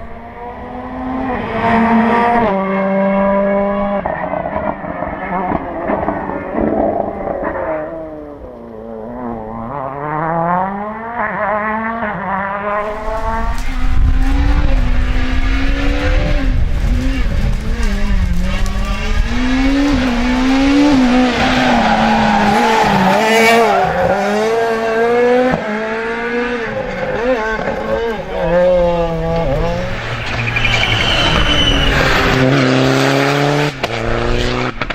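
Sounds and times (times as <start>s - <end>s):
rally car engines revving: 0.0s - 34.9s.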